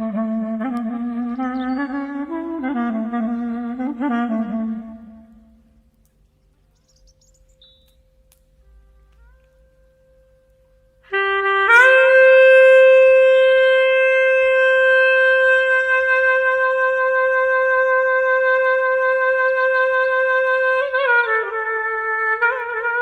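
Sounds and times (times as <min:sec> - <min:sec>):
clarinet playing: 0:00.0 - 0:05.7, 0:08.6 - 0:23.0.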